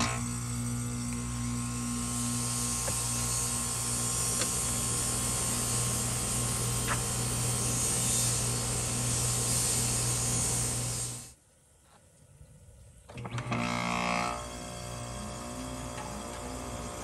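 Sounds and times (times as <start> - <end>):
air conditioner condenser running: 0.0 - 11.3, 13.4 - 17.0.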